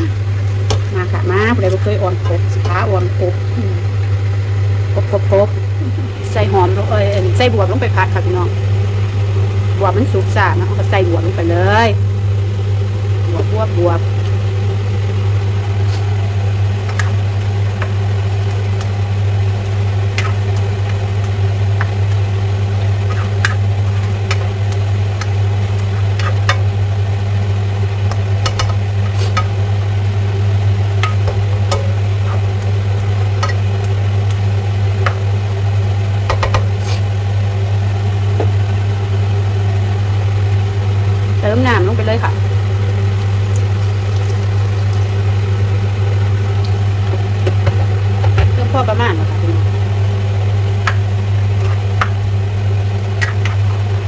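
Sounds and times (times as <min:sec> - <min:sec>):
loud low mechanical hum: 0:00.0 - 0:54.0.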